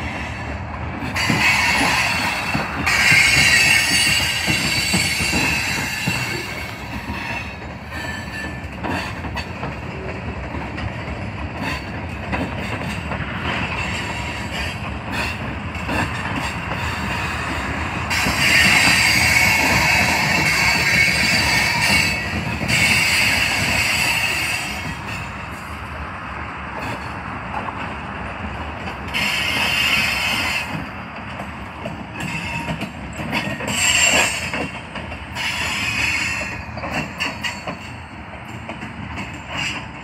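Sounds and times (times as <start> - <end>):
wheels squealing against rails: 0.0 - 10.9, 11.6 - 25.9, 26.8 - 27.3, 29.1 - 40.0
train wheels clacking: 0.0 - 25.9, 26.7 - 40.0.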